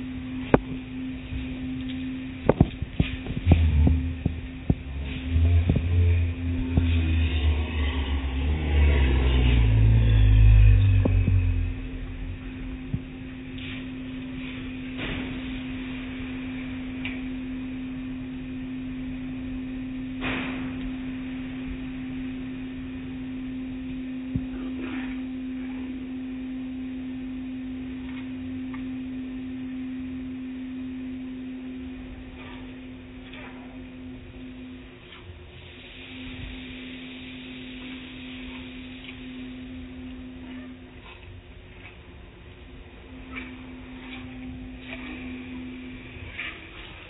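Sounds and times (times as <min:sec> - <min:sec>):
car wash machine hum: 0:00.0 - 0:47.0.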